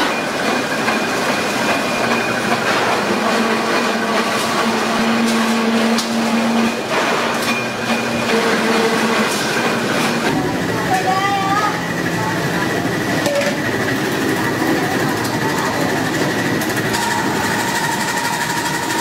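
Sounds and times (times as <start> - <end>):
metal cutting machine running: 0.0 - 19.0.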